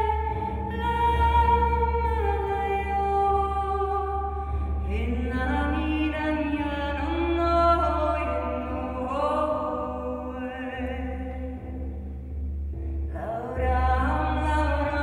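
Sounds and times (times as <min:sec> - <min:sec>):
woman singing wordless chant: 0:00.0 - 0:11.7, 0:13.1 - 0:15.0.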